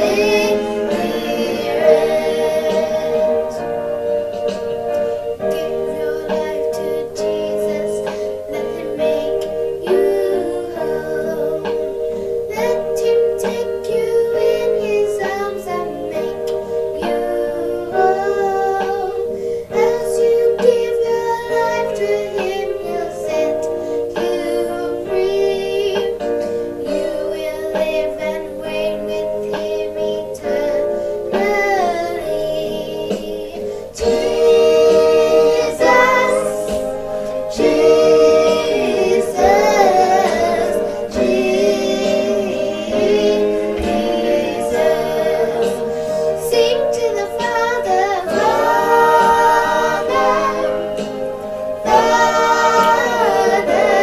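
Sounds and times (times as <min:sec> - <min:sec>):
girl singing: 0:00.0 - 0:03.8, 0:05.4 - 0:51.1, 0:51.8 - 0:54.0
instrumental backing music: 0:00.0 - 0:54.0.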